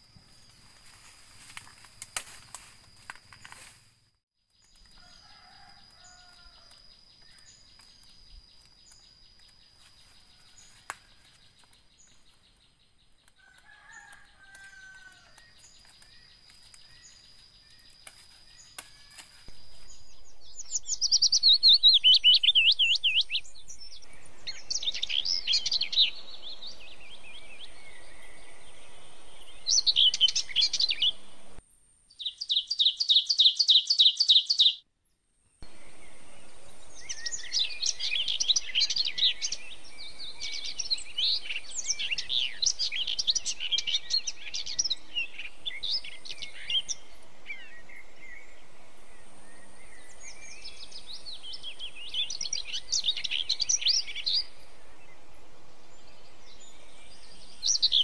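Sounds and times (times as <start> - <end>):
songbird chirping and trilling: 4.5 - 34.9, 35.6 - 58.0.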